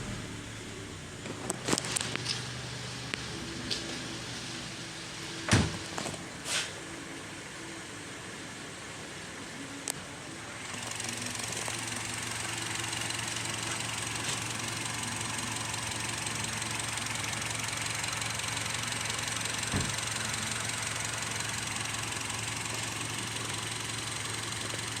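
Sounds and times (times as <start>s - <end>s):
car engine idling: 0.0s - 6.4s, 10.4s - 25.0s.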